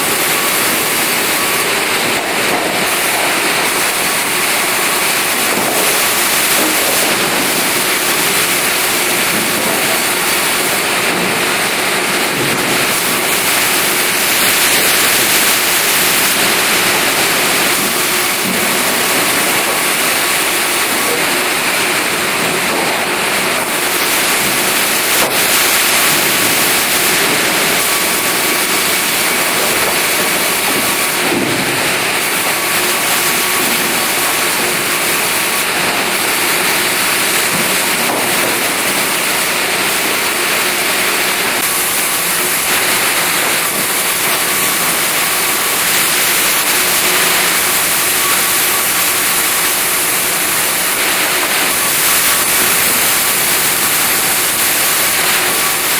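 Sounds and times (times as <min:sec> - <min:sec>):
band saw running: 0:00.0 - 0:55.9.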